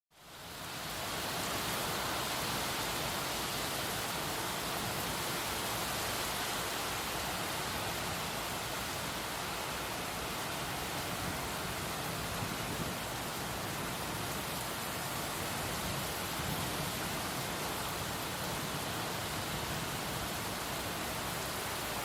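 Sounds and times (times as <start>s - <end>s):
heavy rain pouring: 0.2s - 22.0s.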